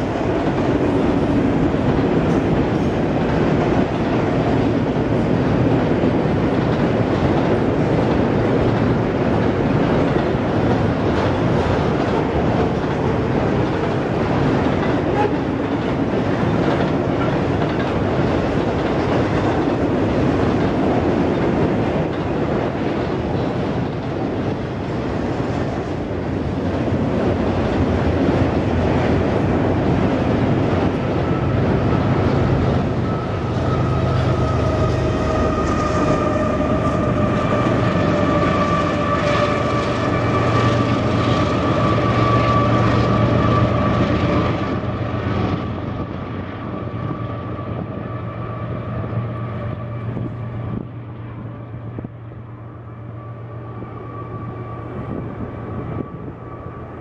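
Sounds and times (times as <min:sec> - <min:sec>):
train rumbling over trestle: 0:00.0 - 0:57.0.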